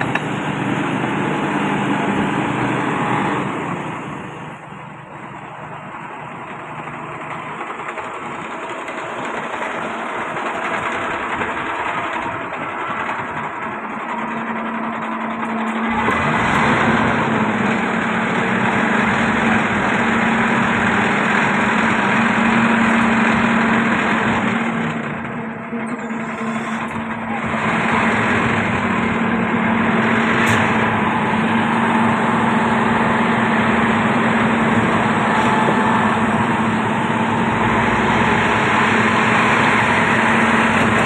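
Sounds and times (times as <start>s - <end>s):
pump engine running: 0.0s - 41.0s
steady low drone: 0.0s - 41.0s.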